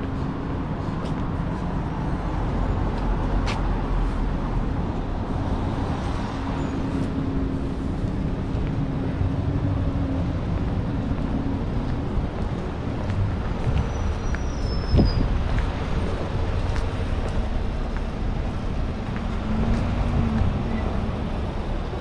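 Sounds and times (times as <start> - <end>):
road traffic rumble: 0.0 - 22.0
vehicle engine humming: 0.0 - 22.0.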